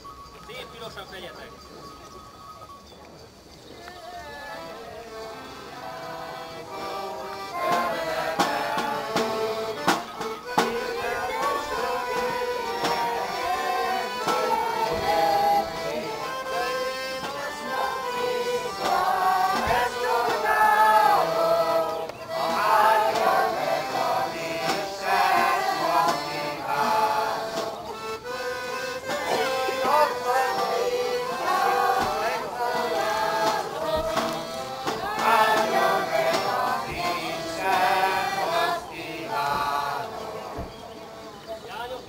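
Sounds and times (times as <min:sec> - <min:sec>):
accordion: 0:00.0 - 0:42.0
group singing folk song: 0:03.8 - 0:41.7.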